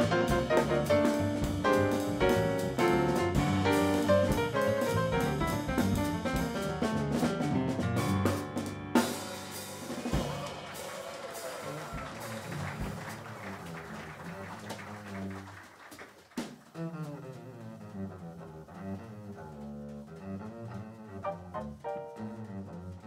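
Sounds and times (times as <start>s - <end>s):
upright double bass: 0.0s - 10.6s, 11.6s - 15.6s, 16.7s - 23.0s
piano: 0.0s - 15.8s, 16.7s - 23.0s
drum kit: 0.0s - 23.0s.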